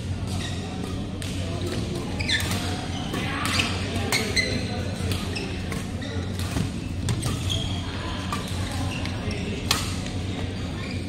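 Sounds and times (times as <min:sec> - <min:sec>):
court shoes squeaking: 0:00.0 - 0:11.0.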